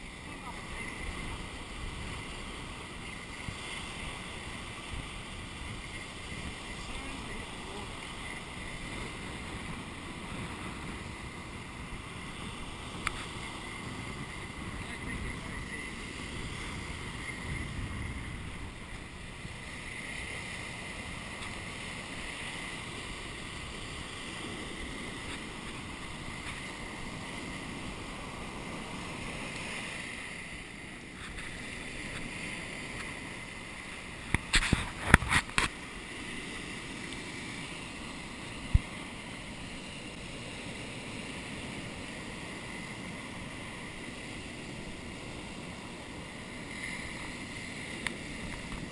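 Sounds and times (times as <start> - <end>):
surf breaking on beach: 0.0 - 48.9
wind: 0.0 - 48.9.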